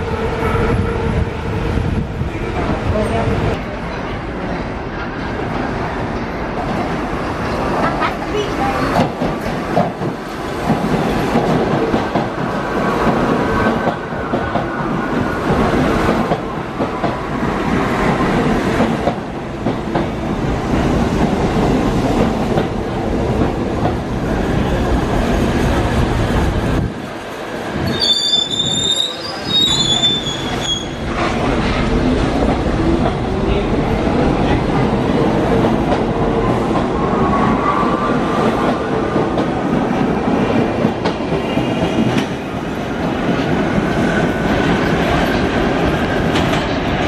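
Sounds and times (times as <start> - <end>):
subway train rumbling: 0.0 - 47.0.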